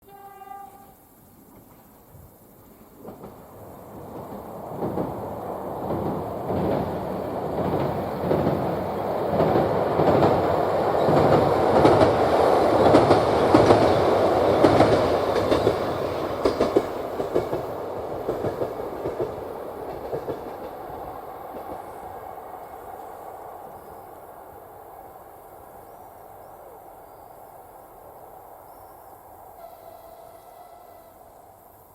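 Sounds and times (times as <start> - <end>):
train rumbling over bridge: 0.1 - 31.9.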